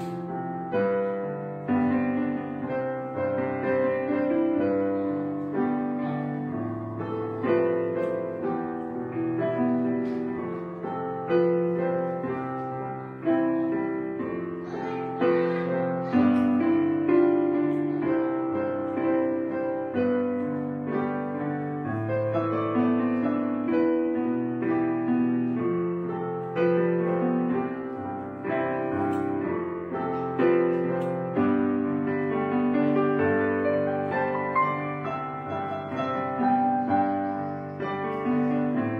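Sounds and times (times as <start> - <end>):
soft piano chords: 0.0 - 38.9.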